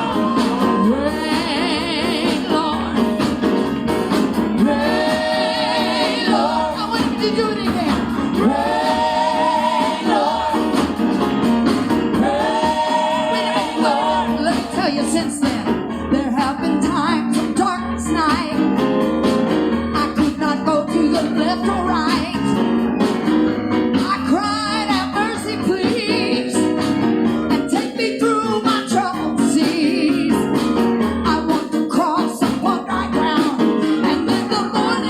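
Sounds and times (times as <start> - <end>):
gospel band music: 0.0 - 35.0.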